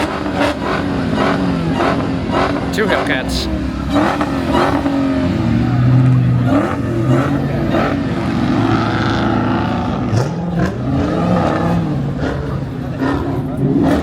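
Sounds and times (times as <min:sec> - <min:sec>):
car engines rolling past: 0:00.0 - 0:14.0.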